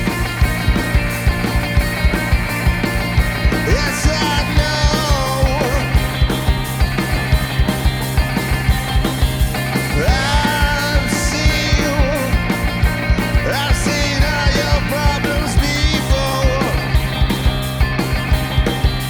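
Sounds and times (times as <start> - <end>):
rock band playing loudly: 0.0 - 19.0
sliding lead guitar line: 0.0 - 19.0.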